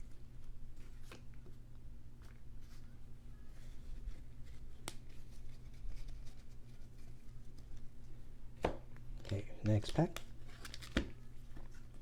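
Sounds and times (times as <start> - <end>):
cards rustling in plastic sleeves: 0.1 - 8.2, 9.2 - 12.0.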